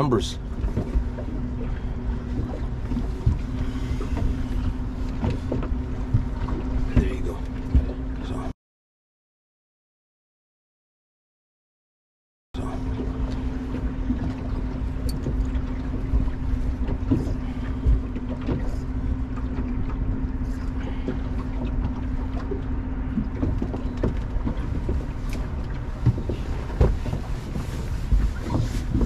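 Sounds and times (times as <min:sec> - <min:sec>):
water and wind noise: 0:00.0 - 0:08.5, 0:12.6 - 0:29.0
boat motor humming: 0:00.0 - 0:08.6, 0:12.6 - 0:29.0.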